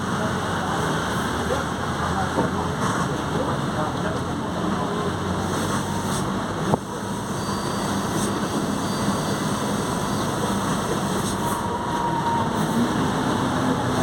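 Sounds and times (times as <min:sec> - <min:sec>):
bus engine at high revs: 0:00.0 - 0:14.0.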